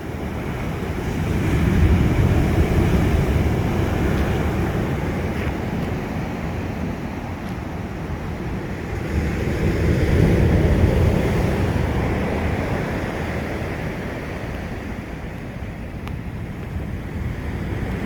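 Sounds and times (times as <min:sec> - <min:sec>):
ocean surf breaking on shore: 0:00.0 - 0:18.0
wind rumble on microphone: 0:00.0 - 0:18.0.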